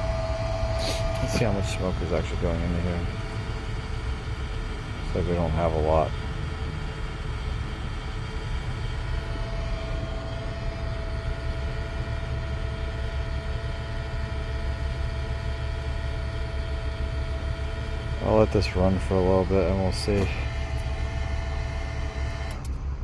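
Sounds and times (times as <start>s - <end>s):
faint steady whine: 0.0s - 23.0s
smoke machine running: 0.0s - 23.0s.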